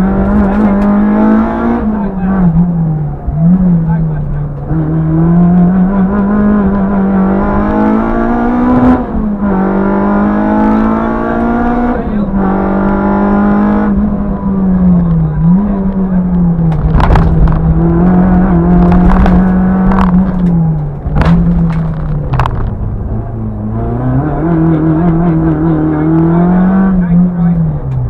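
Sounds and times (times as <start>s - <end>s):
car engine revving hard: 0.0s - 28.0s.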